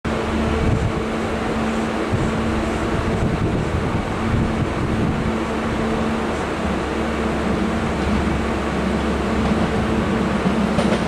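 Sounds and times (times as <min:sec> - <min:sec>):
steady low rumble: 0:00.1 - 0:10.6
wind buffeting microphone: 0:00.1 - 0:11.0.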